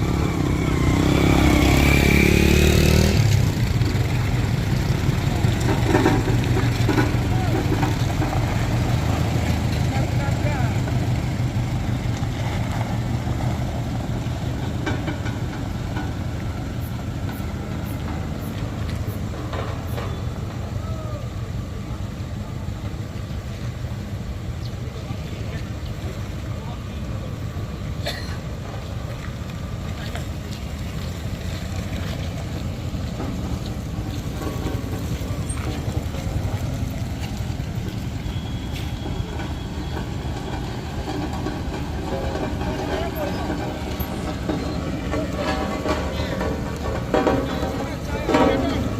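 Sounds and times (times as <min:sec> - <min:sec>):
diesel engine running at low revs: 0:00.0 - 0:48.9.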